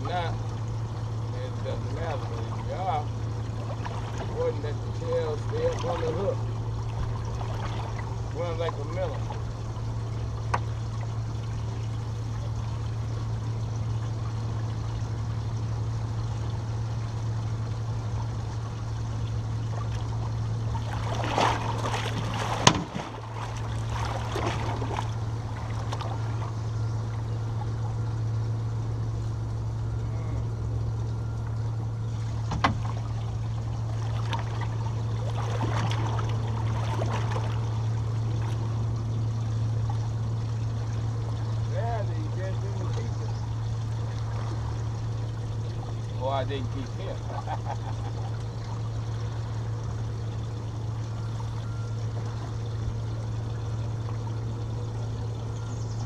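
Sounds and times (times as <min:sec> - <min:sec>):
splashing: 0:00.0 - 0:28.0, 0:32.0 - 0:55.6
boat engine humming: 0:00.0 - 0:56.0.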